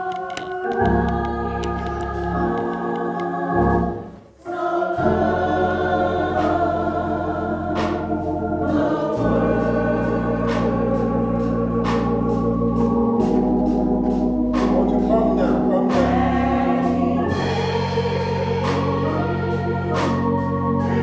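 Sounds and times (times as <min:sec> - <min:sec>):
church choir singing: 0:00.0 - 0:21.0
organ accompaniment: 0:00.0 - 0:21.0.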